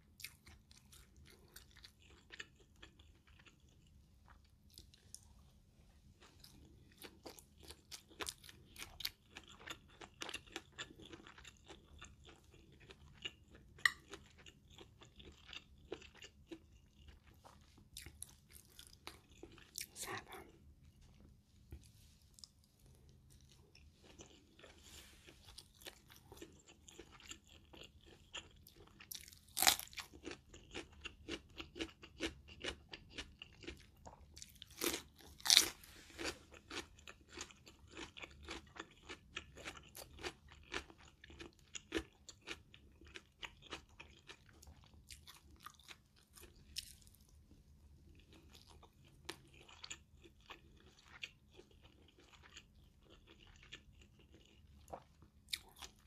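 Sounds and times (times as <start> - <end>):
close-up chewing and crunching: 0.0 - 56.0.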